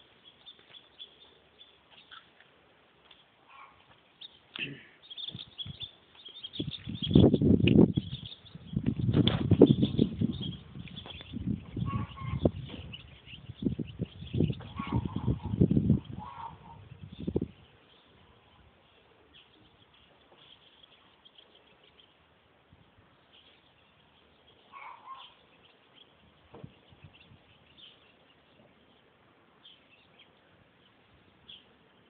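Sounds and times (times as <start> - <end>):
bird chirps: 0.0 - 2.4, 3.0 - 22.3, 23.2 - 32.0.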